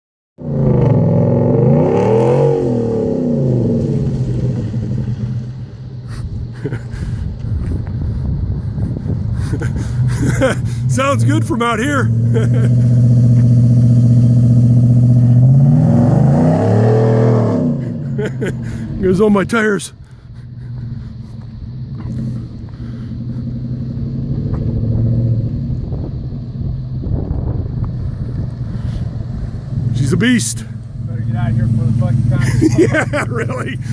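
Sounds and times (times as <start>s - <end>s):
truck engine idling and revving: 0.4s - 33.9s.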